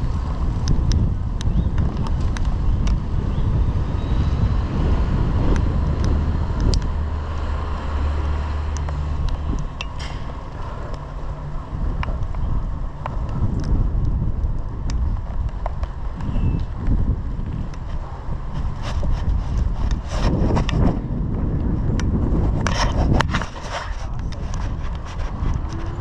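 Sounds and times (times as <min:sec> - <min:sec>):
low vehicle rumble: 0:00.0 - 0:26.0
wind buffeting microphone: 0:00.0 - 0:26.0.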